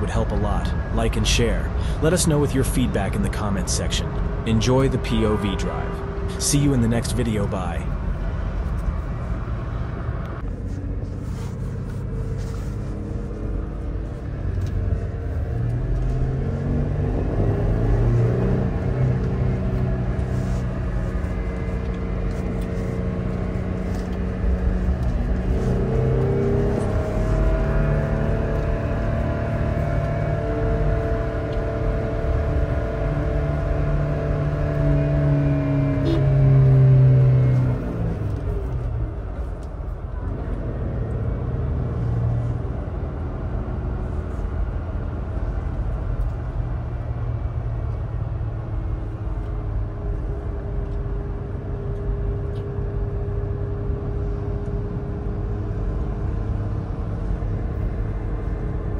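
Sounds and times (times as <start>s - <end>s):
car engine while driving: 0.0s - 58.9s
road noise: 0.0s - 58.9s.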